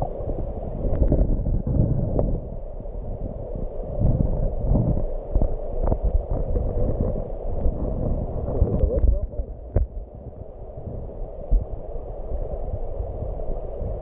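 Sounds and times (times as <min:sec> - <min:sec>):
underwater rush of water: 0:00.0 - 0:14.0.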